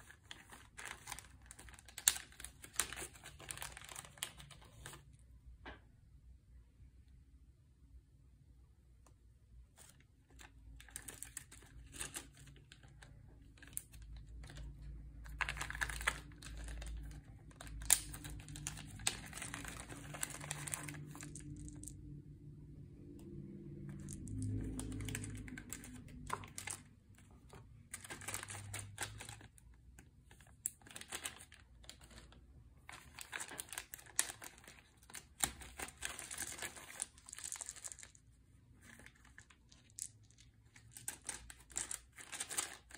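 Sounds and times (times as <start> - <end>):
plastic bags crinkling: 0.0 - 5.1, 9.8 - 22.2, 23.7 - 42.9.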